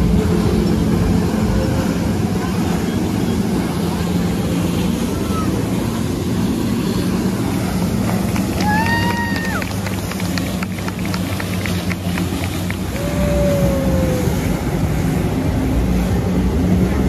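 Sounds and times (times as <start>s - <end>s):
jet ski engine drone: 0.0s - 17.0s
water spray rushing: 0.0s - 17.0s.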